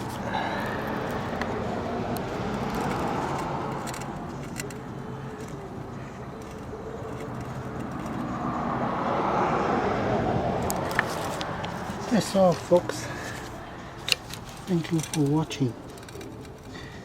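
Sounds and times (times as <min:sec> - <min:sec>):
passing cars hum: 0:00.0 - 0:17.0.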